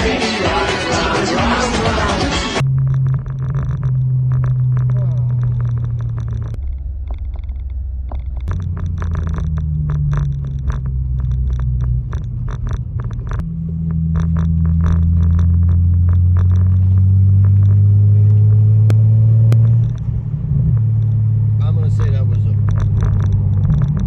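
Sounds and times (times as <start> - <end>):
car engine low drone: 0.0 - 24.0
fast irregular crackle: 2.6 - 18.9, 19.5 - 24.0.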